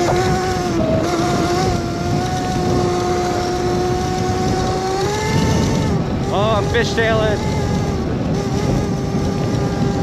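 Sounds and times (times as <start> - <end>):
electric motor and chain whining: 0.0 - 10.0
wind rushing on camera: 0.0 - 10.0.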